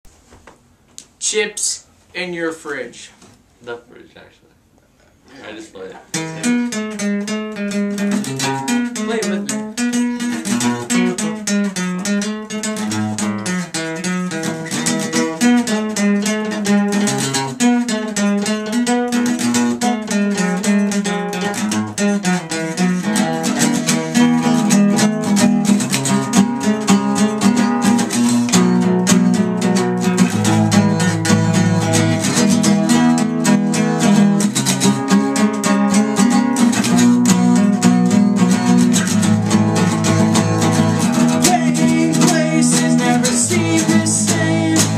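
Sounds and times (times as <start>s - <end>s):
acoustic guitar playing: 5.1s - 44.9s.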